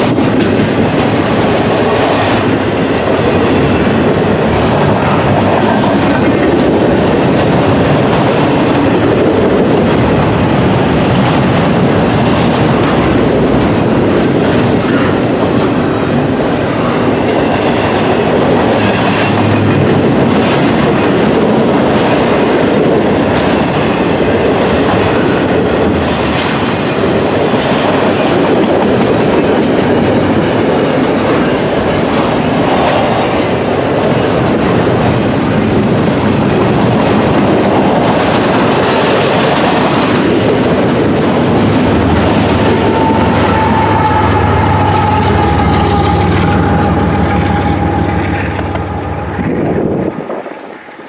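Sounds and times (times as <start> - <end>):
clickety-clack over rail joints: 0.0 - 51.0
train wheels rumbling: 0.0 - 51.0.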